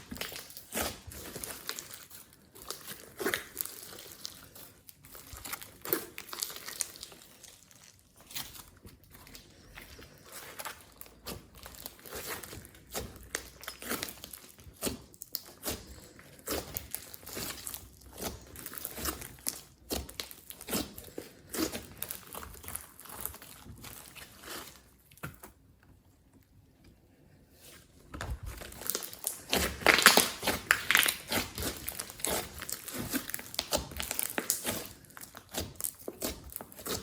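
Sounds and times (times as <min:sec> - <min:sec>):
sticky slime crackles and squishes: 0:00.0 - 0:37.0.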